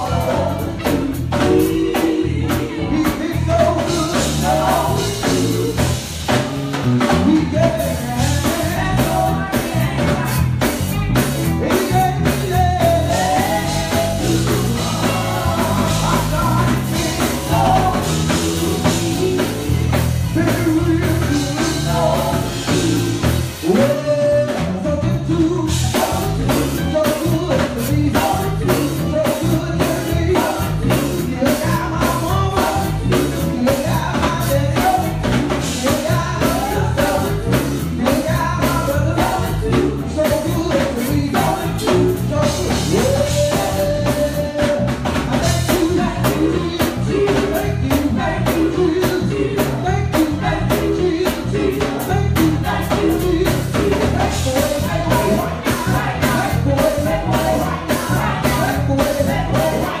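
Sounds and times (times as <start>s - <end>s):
man singing into a microphone: 0.0s - 6.1s, 7.0s - 60.0s
gospel band playing: 0.0s - 60.0s.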